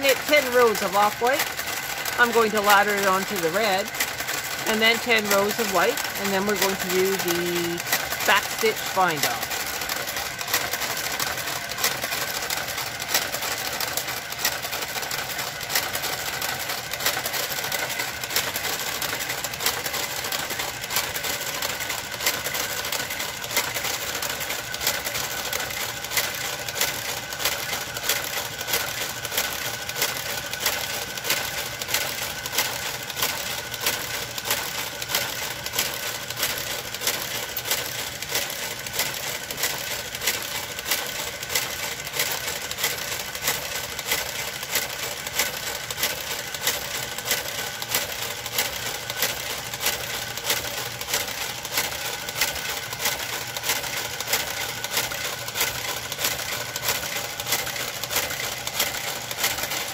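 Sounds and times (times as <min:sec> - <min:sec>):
knitting machine carriage humming: 0:00.0 - 0:59.9
knitting machine clicks: 0:00.0 - 0:59.9.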